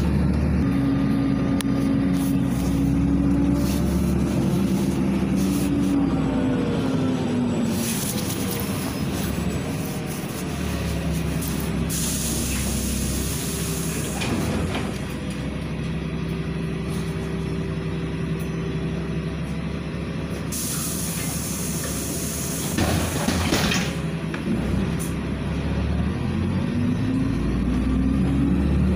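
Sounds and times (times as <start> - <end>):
bus engine drone: 0.0 - 28.9
tyre and road noise: 0.0 - 28.9.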